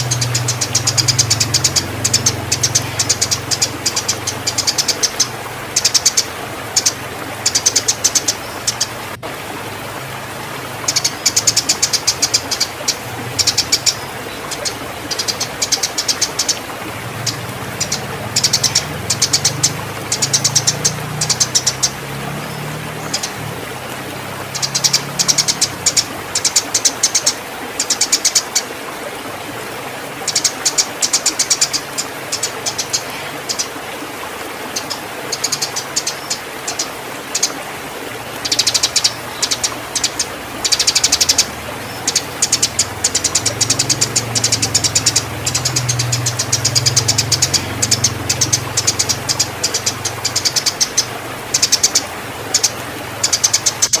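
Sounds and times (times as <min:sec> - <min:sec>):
sparrows chirping: 0:00.0 - 0:09.0, 0:10.8 - 0:23.4, 0:24.4 - 0:28.6, 0:30.2 - 0:33.8, 0:34.7 - 0:37.6, 0:38.4 - 0:54.0.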